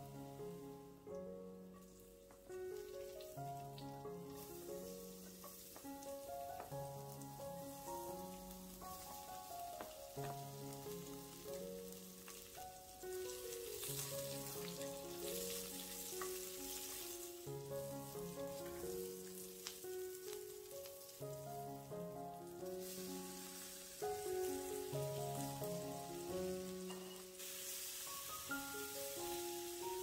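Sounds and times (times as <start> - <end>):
background music: 0.0 - 30.0
vegetables sizzling in hot oil: 1.8 - 30.0.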